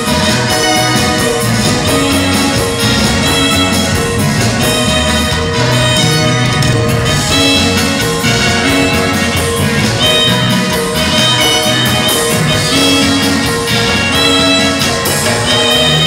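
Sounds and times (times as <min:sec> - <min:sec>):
live band dance music: 0:00.0 - 0:16.0.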